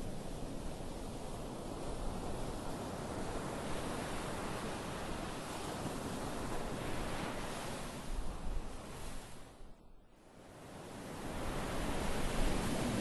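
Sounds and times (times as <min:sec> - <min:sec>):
ocean waves breaking on beach: 0:00.0 - 0:09.6, 0:10.3 - 0:13.0.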